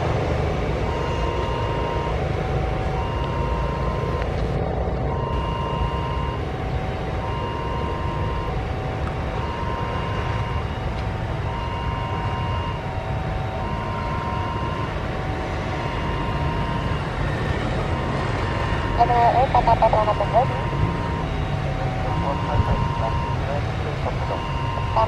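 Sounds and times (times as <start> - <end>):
jet airliner idling: 0.0 - 25.0
truck passing: 0.0 - 25.0.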